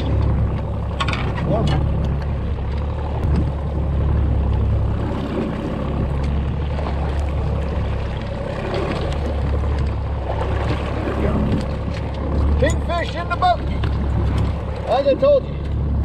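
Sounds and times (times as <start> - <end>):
outboard motor rumble: 0.0 - 16.0.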